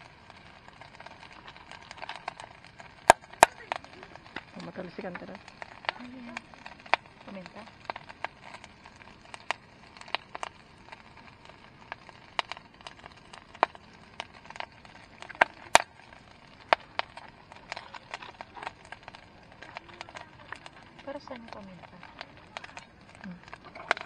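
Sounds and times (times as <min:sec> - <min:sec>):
hot fat popping and crackling: 0:00.0 - 0:24.0
meat frying in oil: 0:00.0 - 0:24.0.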